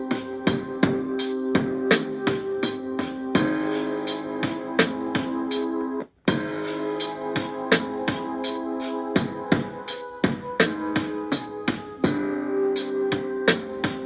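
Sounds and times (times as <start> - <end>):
sustained keyboard chords: 0.0 - 14.0.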